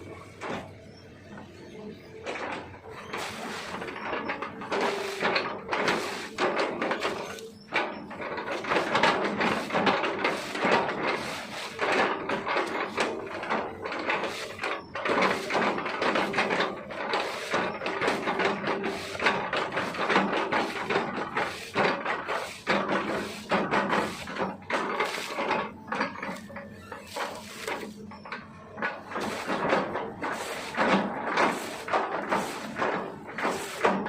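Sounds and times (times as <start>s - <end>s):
excavator crunching wood: 0.0s - 34.0s.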